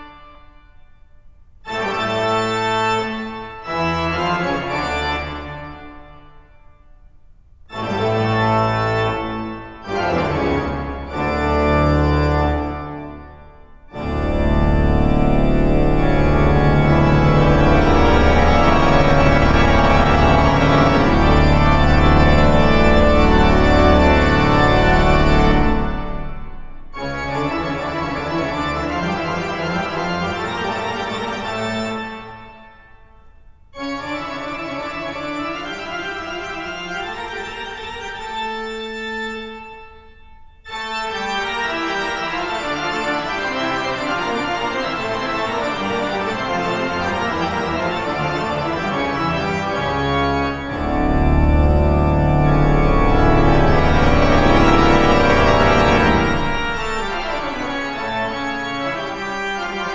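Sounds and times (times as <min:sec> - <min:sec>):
sustained keyboard chords: 0:07.7 - 0:32.7, 0:33.7 - 0:59.9.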